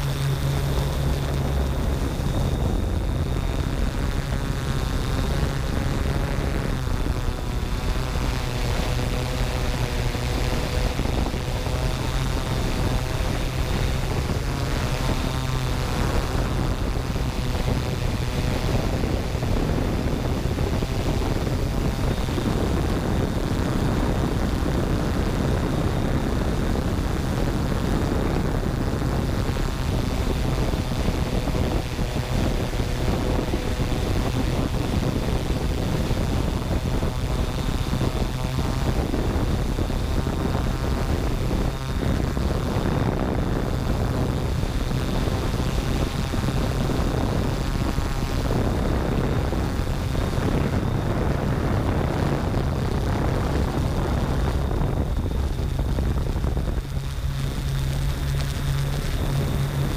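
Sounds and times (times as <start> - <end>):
drone motors and propellers: 0.0 - 59.9.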